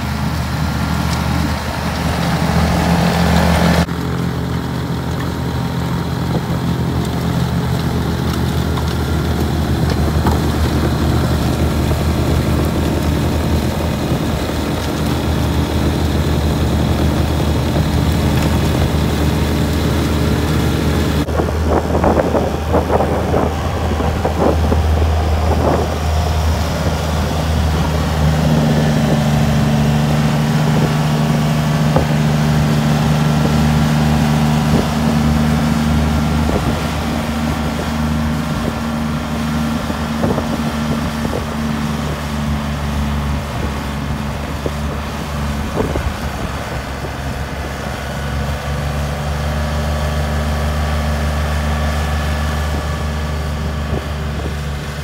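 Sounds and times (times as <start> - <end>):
snowblower running: 0.0 - 55.0
tractor diesel engine under load: 0.0 - 55.0.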